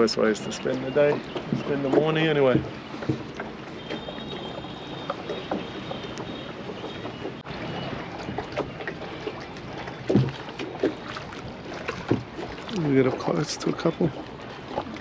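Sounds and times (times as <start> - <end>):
rush of water and wind: 0.0 - 15.0
water lapping around a boat: 0.0 - 15.0.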